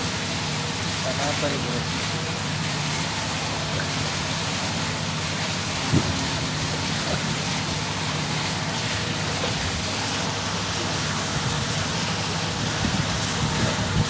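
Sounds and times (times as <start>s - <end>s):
boat engine hum: 0.0s - 14.0s
rushing wind and water: 0.0s - 14.0s.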